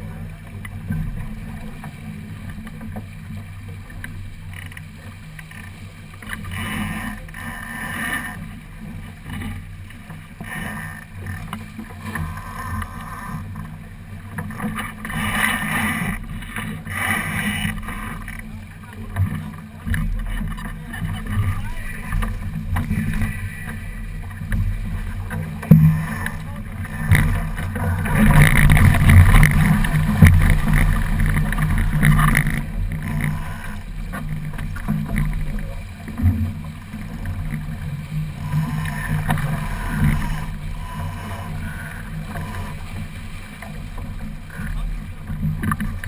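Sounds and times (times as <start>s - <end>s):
water rushing along boat hull: 0.0s - 46.0s.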